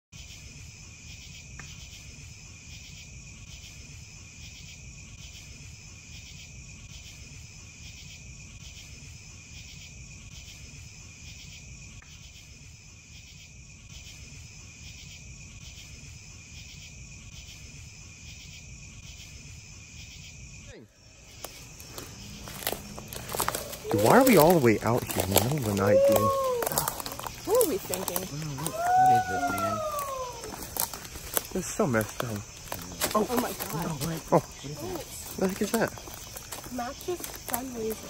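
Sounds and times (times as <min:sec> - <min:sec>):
constant high insect trill: 0:00.1 - 0:38.0
crickets chirping: 0:00.1 - 0:38.0.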